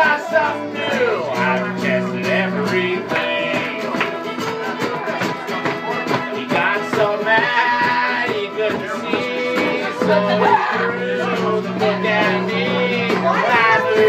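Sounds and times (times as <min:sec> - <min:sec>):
acoustic guitar playing: 0:00.0 - 0:14.0
person singing: 0:00.0 - 0:14.0.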